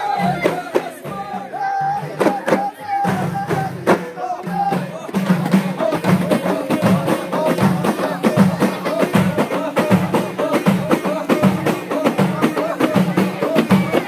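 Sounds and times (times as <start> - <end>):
frame drums beating: 0.0 - 14.0
voices: 0.0 - 14.0.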